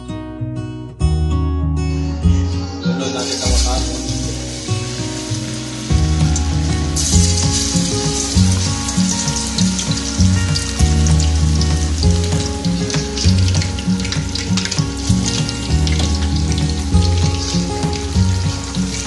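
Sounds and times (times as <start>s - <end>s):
background music with bass beat: 1.0s - 19.0s
chicken sizzling in hot oil: 3.3s - 19.0s.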